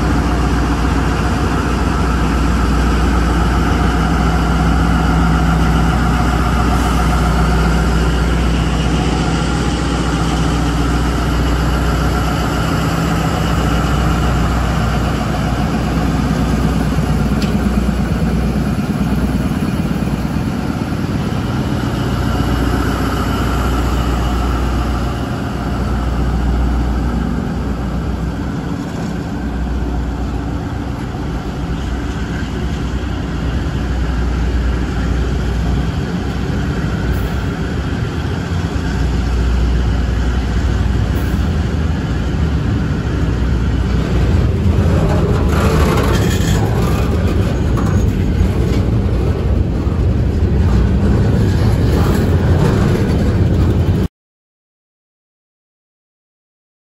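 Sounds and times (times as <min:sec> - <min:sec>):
diesel locomotive engine idling: 0:00.0 - 0:54.1.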